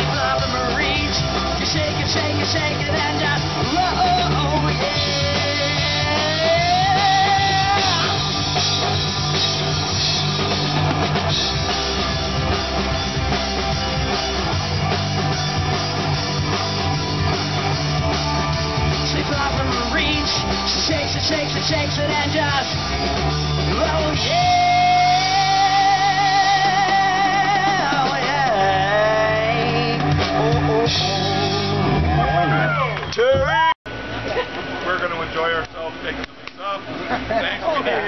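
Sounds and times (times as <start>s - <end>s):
live rock band playing: 0.0s - 34.2s
sliding electric guitar lead: 0.0s - 34.7s.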